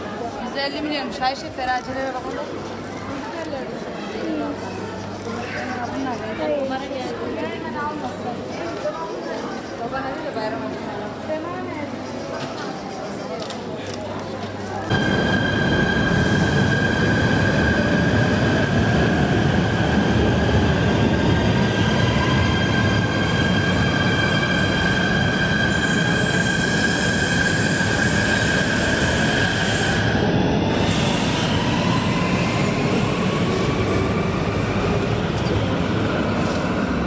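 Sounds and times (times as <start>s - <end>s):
train rumble and rail noise: 0.0s - 37.0s.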